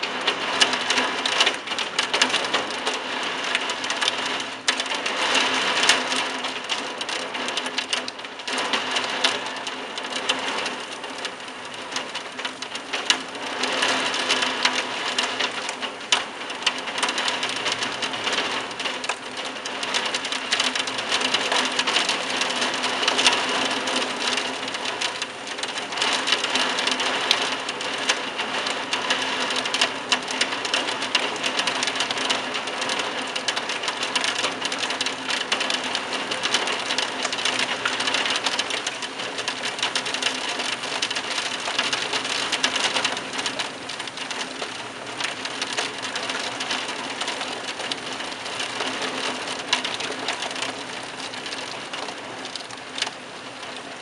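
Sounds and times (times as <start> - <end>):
heavy rain on a tiled roof: 0.0 - 54.0.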